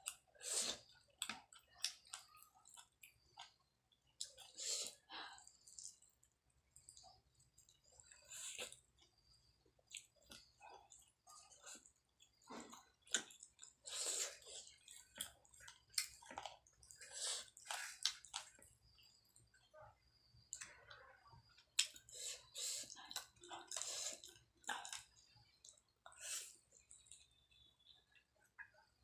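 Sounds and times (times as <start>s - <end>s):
chewing and wet mouth smacking: 0.0s - 19.7s, 22.8s - 28.0s.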